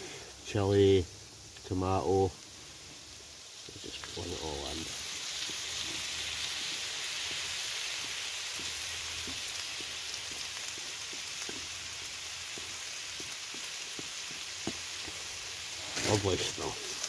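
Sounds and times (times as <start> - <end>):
potatoes frying in a pan: 0.0 - 17.0.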